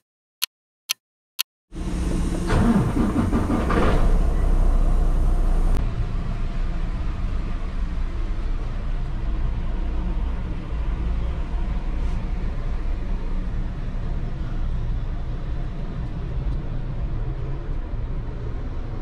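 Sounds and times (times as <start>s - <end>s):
truck engine and road rumble: 1.7s - 19.0s.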